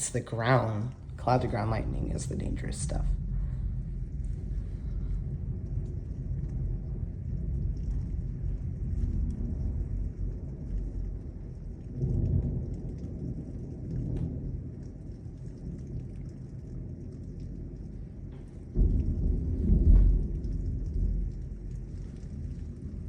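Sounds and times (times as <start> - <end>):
heavy rain: 0.0 - 23.0
thunder rumbling: 0.0 - 23.0.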